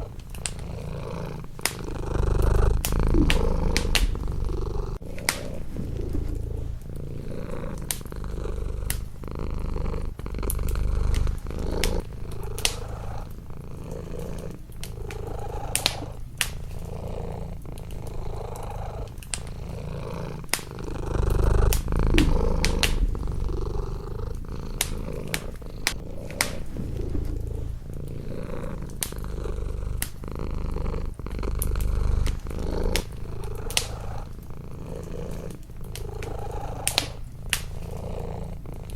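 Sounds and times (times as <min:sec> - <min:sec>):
cat purring: 0:00.0 - 0:38.9
wood fire crackling and popping: 0:00.0 - 0:38.9.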